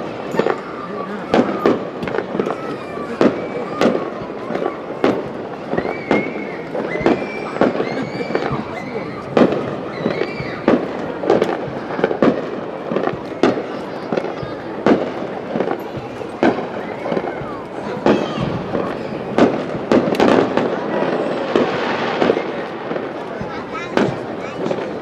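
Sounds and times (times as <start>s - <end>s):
firework shells bursting: 0.0s - 25.0s.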